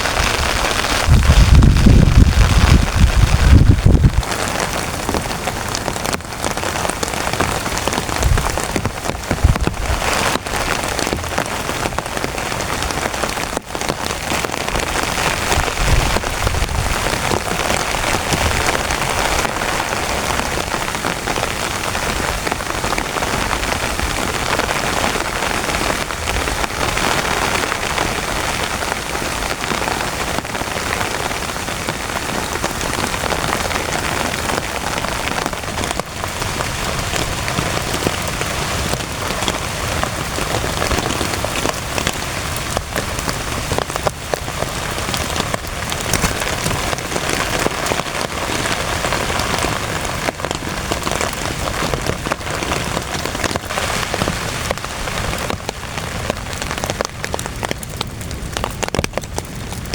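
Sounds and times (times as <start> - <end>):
heavy rain on a tent: 0.0 - 59.9.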